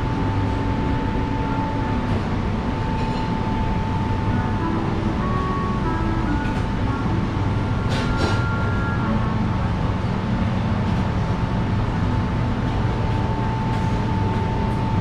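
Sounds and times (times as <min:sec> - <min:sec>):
low room hum: 0:00.0 - 0:15.0
thin steady whine: 0:00.0 - 0:15.0.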